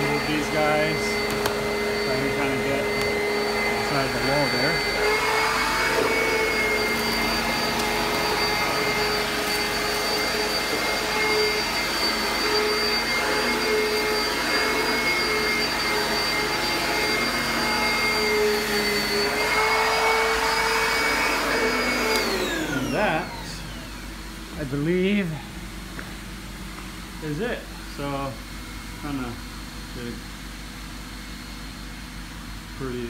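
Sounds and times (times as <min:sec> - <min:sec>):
vacuum cleaner whining: 0:00.0 - 0:33.0.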